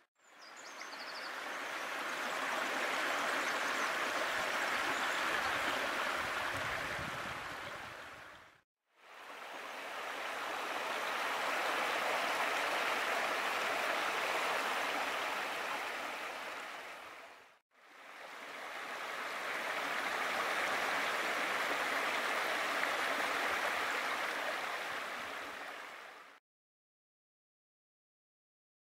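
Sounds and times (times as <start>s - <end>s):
stream water rushing: 0.4s - 26.4s.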